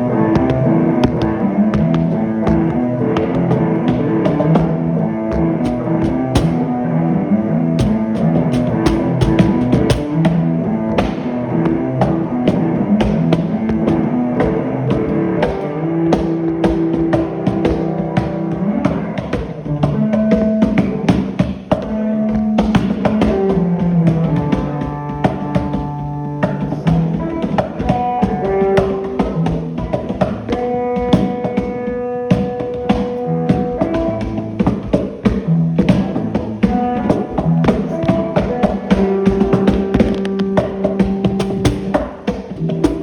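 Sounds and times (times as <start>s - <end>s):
drum kit beat: 0.0s - 6.8s, 7.8s - 43.0s
sustained guitar notes: 0.0s - 43.0s.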